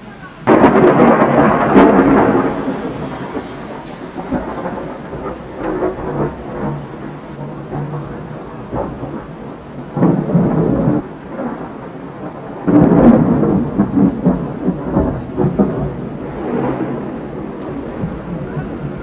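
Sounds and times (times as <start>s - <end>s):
steady rain: 0.0s - 19.0s
thunder rumbling: 0.0s - 19.0s.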